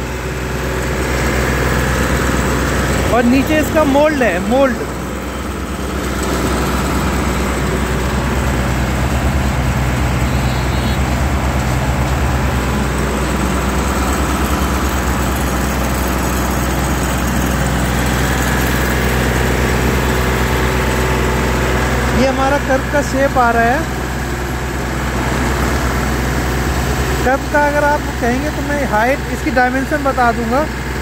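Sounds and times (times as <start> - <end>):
machine engine droning: 0.0 - 31.0.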